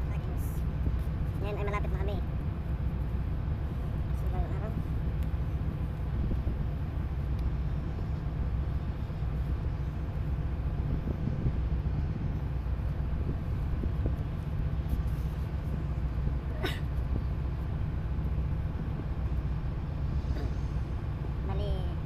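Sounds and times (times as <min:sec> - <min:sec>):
tugboat engine rumble: 0:00.0 - 0:22.0.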